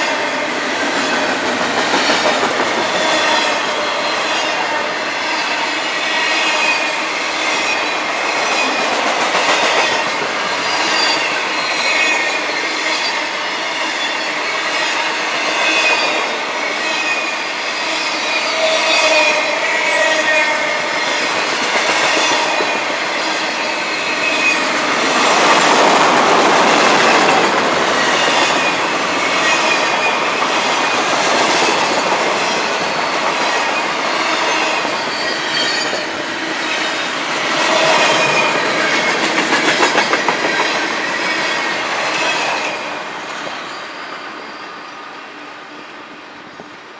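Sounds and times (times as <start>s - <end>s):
steel wheels rolling on rail: 0.0s - 44.8s.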